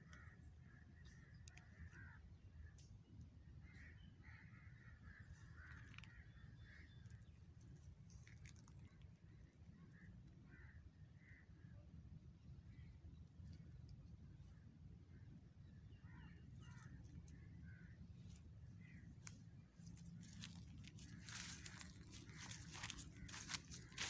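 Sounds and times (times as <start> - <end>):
faint crows cawing: 0.0 - 12.0, 14.4 - 24.0
low steady rumble: 0.0 - 24.0.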